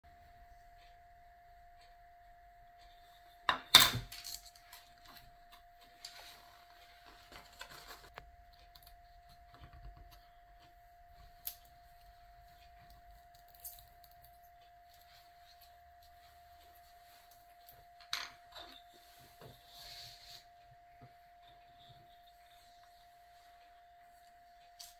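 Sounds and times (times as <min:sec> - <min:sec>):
faint steady tone: 0:00.1 - 0:24.9.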